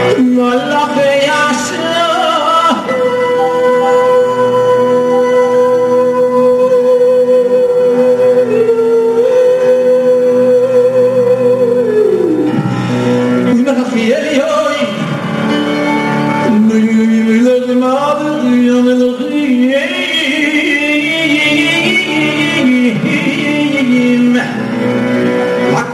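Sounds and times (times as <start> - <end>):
instrumental backing: 0.0 - 25.9
man singing into microphone: 0.0 - 25.9.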